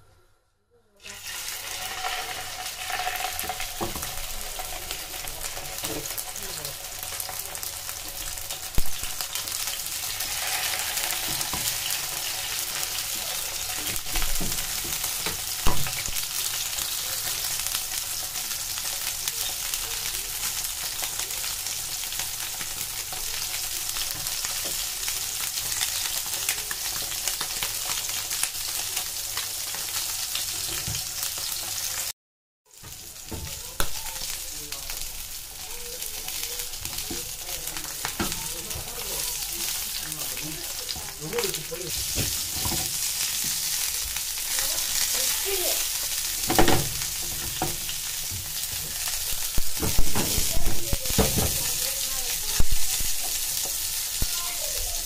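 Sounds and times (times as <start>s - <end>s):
fish sizzling in a pan: 1.0s - 32.1s, 32.7s - 55.0s.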